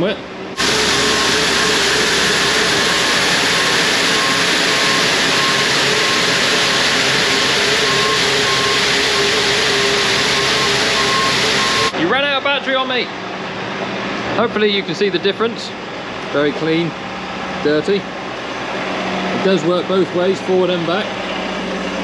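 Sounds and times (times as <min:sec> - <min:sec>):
telehandler engine running hard: 0:00.0 - 0:22.0.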